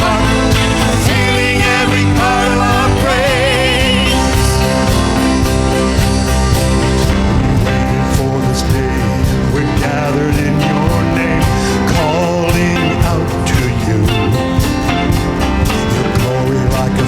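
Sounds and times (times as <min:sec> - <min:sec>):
drums keeping a steady beat: 0:00.0 - 0:17.0
guitar: 0:00.0 - 0:17.0
live band playing: 0:00.0 - 0:17.0.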